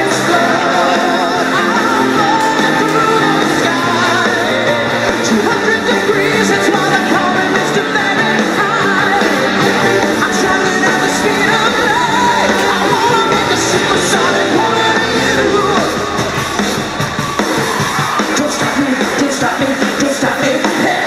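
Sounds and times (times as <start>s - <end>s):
rock song with singer and guitar: 0.0s - 21.0s.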